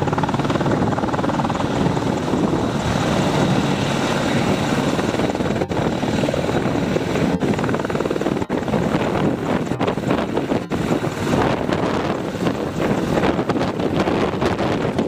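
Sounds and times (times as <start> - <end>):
helicopter rotor beat: 0.0 - 15.0.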